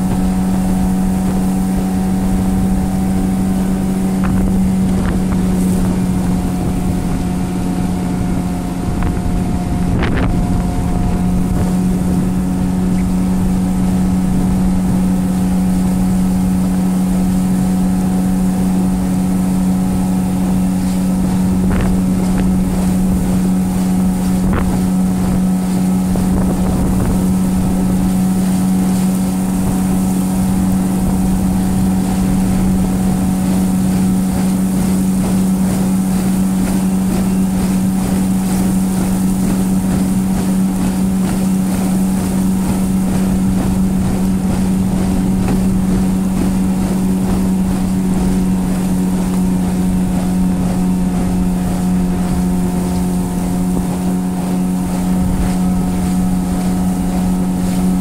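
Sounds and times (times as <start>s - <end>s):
boat motor running: 0.0s - 58.0s.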